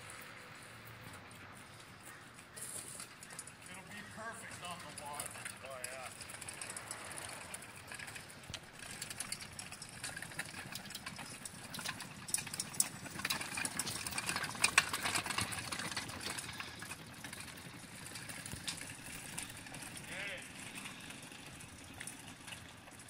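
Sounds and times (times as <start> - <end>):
chain and frame rattling: 0.0 - 23.0
tires rolling over asphalt: 0.0 - 23.0.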